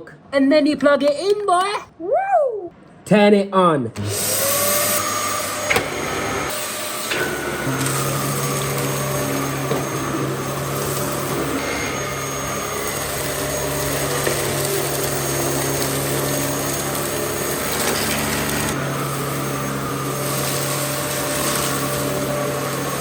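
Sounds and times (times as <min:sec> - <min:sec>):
vacuum cleaner running: 0:04.0 - 0:23.0.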